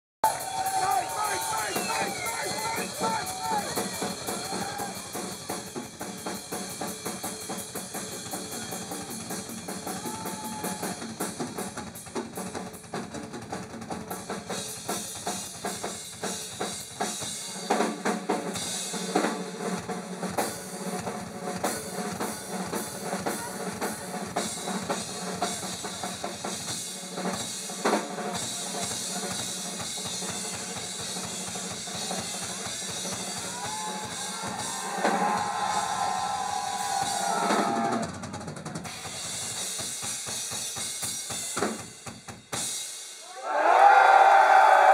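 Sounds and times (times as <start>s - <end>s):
rock drum kit playing: 0.2s - 43.2s.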